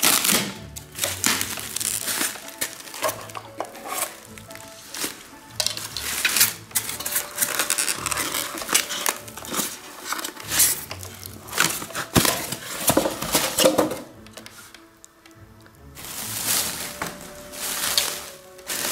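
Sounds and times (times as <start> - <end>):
styrofoam rubbing and squeaking: 0.0 - 14.9, 16.0 - 18.9.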